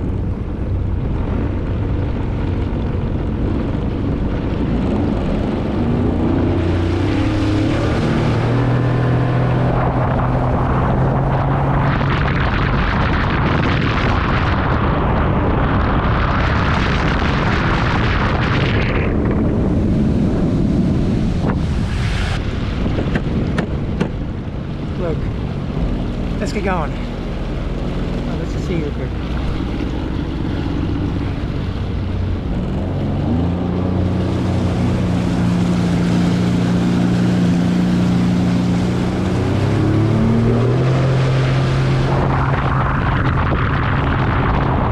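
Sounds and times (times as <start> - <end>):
jet ski engine accelerating: 0.0 - 44.9
wind rushing over microphone: 0.0 - 44.9.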